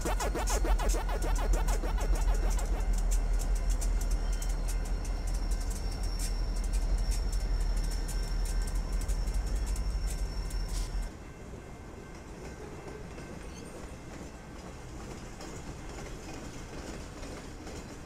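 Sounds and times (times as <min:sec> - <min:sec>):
freight train rumble and clacking wheels: 0:00.0 - 0:18.0
work train rumbling and rattling: 0:00.0 - 0:18.0.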